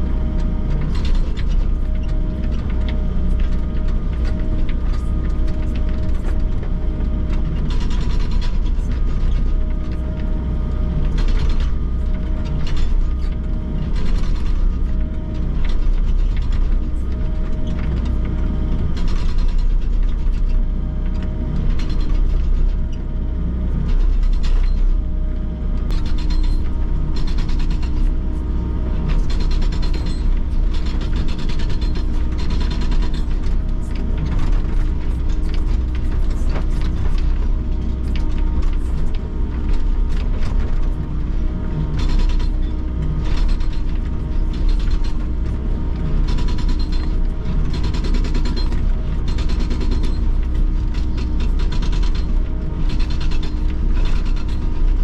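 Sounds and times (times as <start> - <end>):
excavator engine drone: 0.0 - 55.0.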